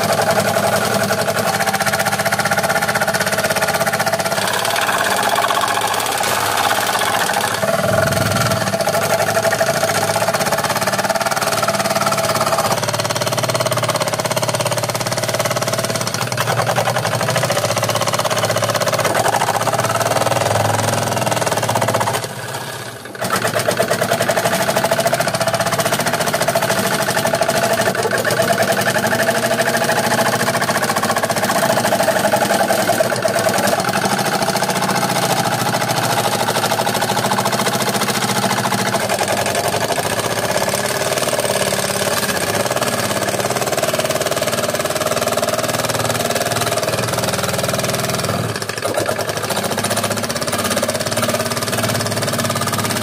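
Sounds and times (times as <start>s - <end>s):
scroll saw cutting plywood: 0.0s - 53.0s.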